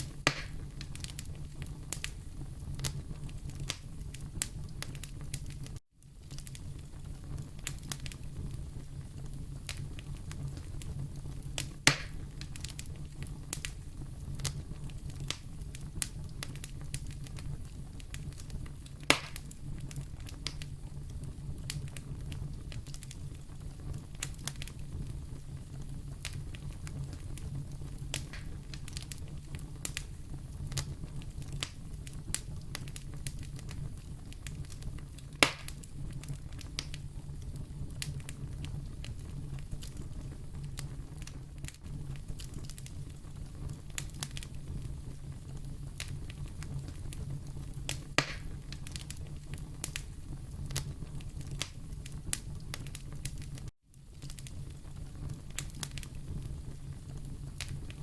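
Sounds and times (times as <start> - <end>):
fire crackling: 0.0 - 58.0
sharp fire pops: 0.0 - 58.0.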